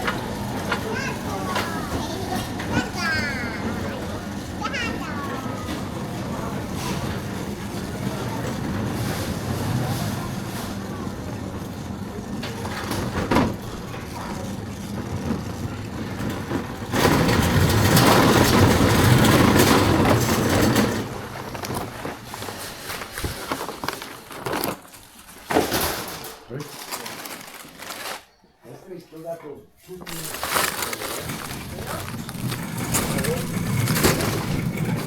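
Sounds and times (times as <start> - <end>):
distant shoppers' voices: 0.0 - 35.0.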